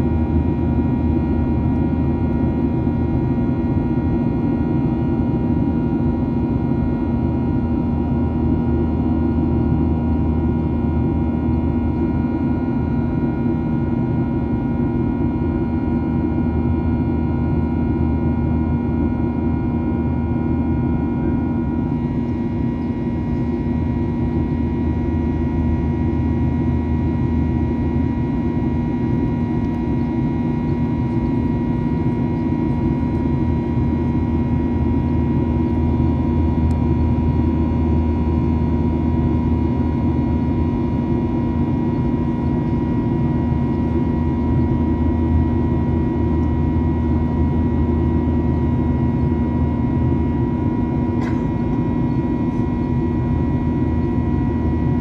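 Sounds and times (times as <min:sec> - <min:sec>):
airplane cabin drone: 0:00.0 - 0:55.0.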